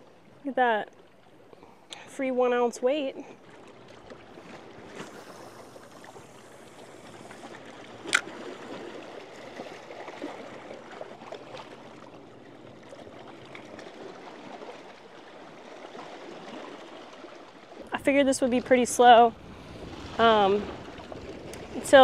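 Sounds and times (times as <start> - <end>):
small waves lapping on rocks: 0.0 - 22.0.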